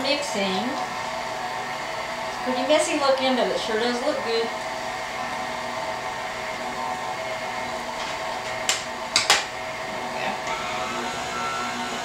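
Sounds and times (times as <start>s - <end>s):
stand mixer humming: 0.0s - 12.0s.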